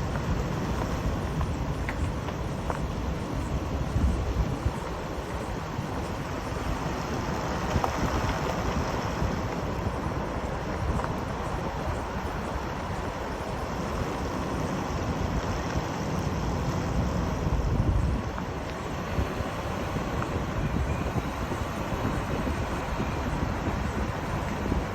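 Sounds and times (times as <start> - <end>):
vehicle road noise rumble: 0.0 - 24.9
wind hiss: 0.0 - 24.9.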